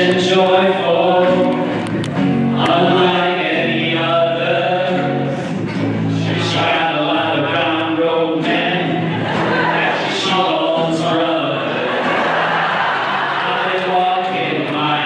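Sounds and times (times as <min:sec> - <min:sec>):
choral singing: 0:00.0 - 0:01.8, 0:02.4 - 0:15.0.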